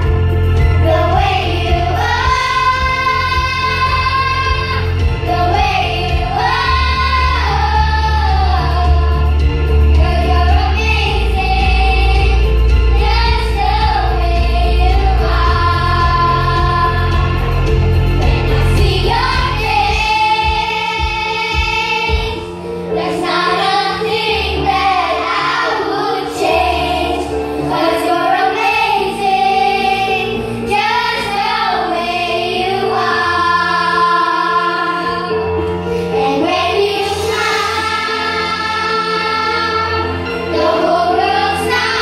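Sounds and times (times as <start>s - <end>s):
children singing: 0.0s - 42.0s
instrumental accompaniment: 0.0s - 42.0s.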